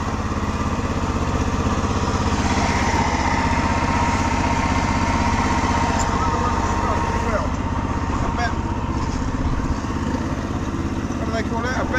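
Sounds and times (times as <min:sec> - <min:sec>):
small petrol engine running: 0:00.0 - 0:11.9.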